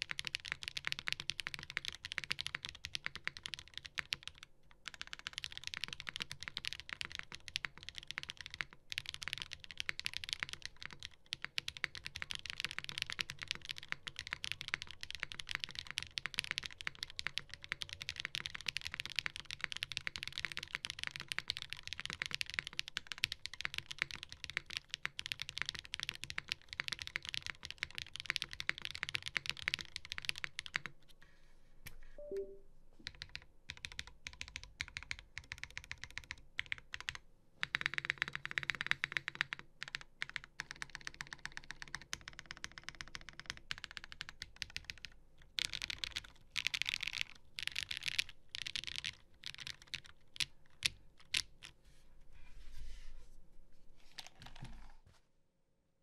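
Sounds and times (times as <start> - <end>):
mechanical keyboard typing: 0.0 - 31.0, 32.2 - 51.8.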